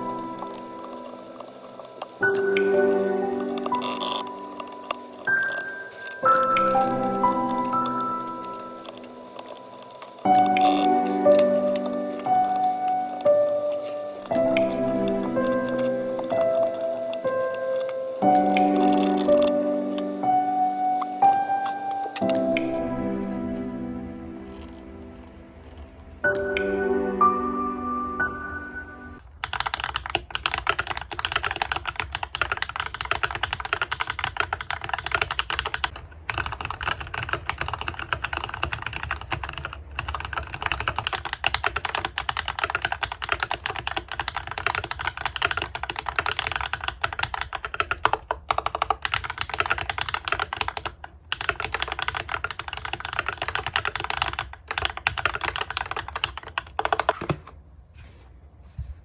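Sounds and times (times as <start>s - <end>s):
mechanical keyboard typing: 0.0s - 20.2s, 21.0s - 22.8s, 29.3s - 57.5s.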